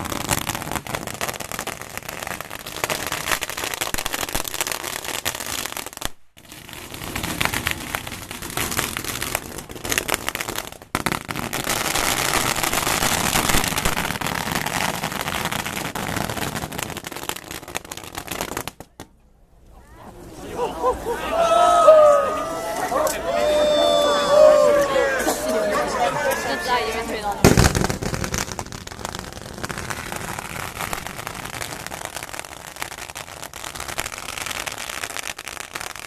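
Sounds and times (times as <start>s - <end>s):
firecrackers crackling: 0.0s - 19.2s, 21.1s - 36.0s.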